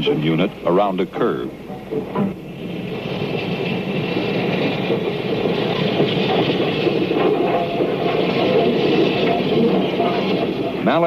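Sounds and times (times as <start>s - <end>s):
steam locomotive running: 0.0s - 11.0s.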